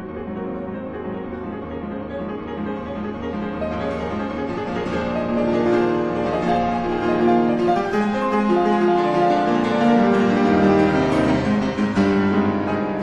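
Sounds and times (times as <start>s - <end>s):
piano music with held notes: 0.0s - 13.0s.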